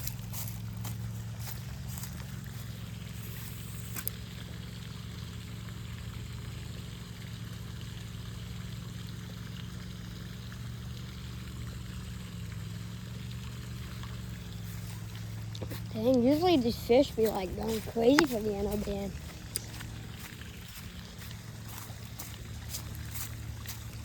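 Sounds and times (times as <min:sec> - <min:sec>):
steady low hum: 0:00.0 - 0:24.0
water trickling: 0:00.0 - 0:24.0.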